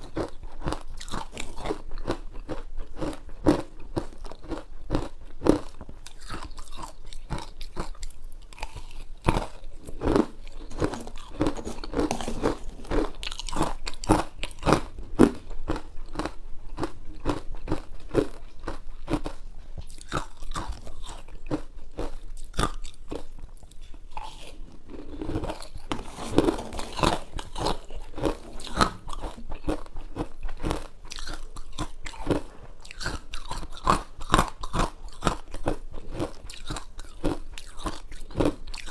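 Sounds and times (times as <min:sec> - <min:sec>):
ice crunching and chewing: 0:00.0 - 0:38.9.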